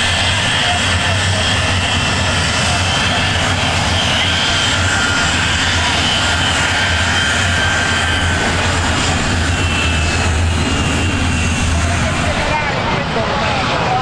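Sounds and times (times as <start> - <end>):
jet engine whine and rumble: 0.0 - 14.0.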